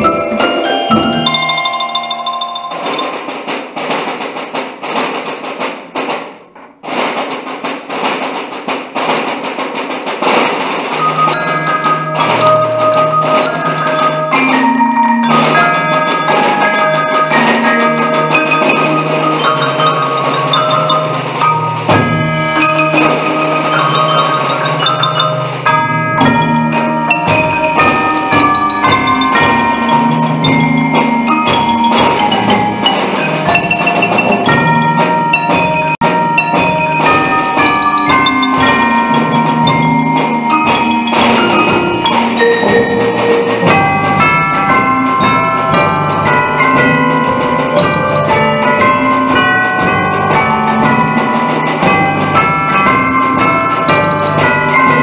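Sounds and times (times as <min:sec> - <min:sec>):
marimbas and xylophone playing: 0:00.0 - 0:03.7, 0:10.8 - 0:55.0.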